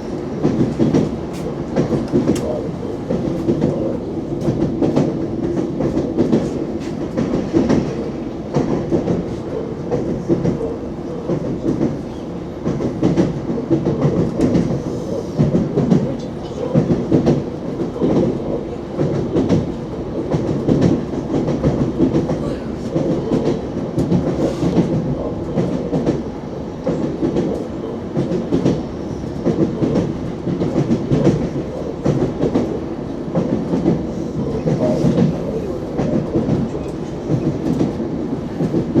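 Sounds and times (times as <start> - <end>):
low train rumble: 0.0 - 39.0.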